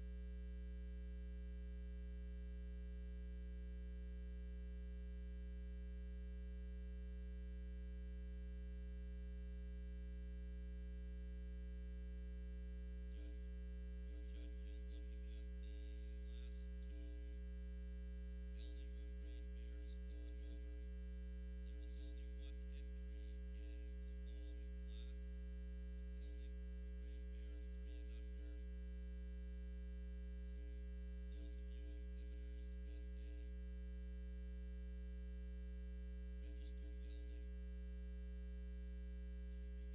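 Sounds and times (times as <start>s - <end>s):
low electrical mains hum: 0.0s - 39.9s.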